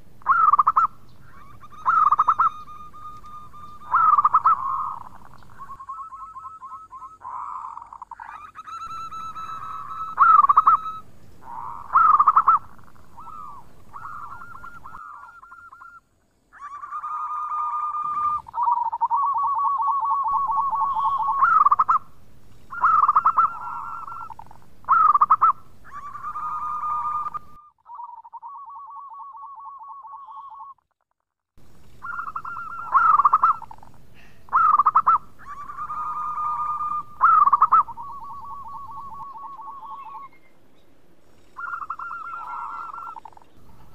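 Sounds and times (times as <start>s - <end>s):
dove cooing trills: 0.0s - 30.8s, 31.7s - 43.9s.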